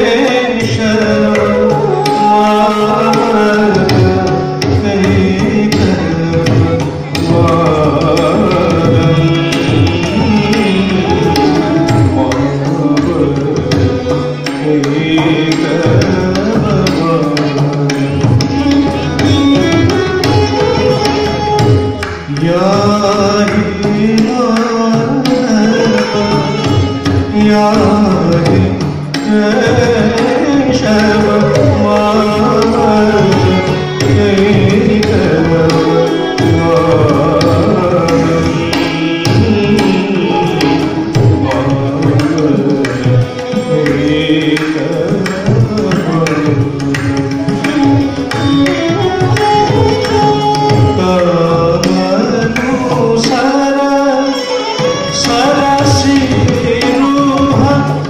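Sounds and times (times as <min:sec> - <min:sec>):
gliding melody: 0:00.0 - 0:58.0
hand drum rhythm: 0:00.0 - 0:58.0.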